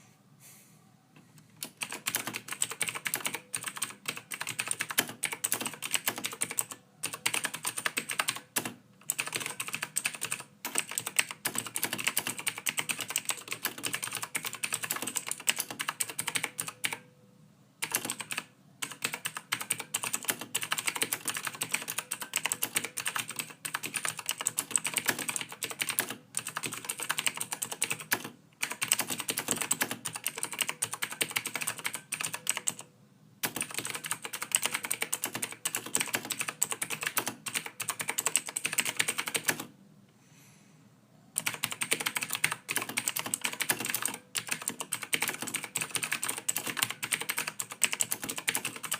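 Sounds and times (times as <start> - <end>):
typing on computer keyboard: 1.6 - 17.0, 17.8 - 39.7, 41.4 - 48.9.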